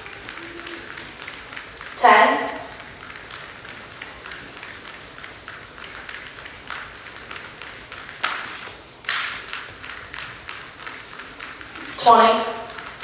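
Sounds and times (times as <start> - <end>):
jump rope slapping floor: 0.0 - 13.0.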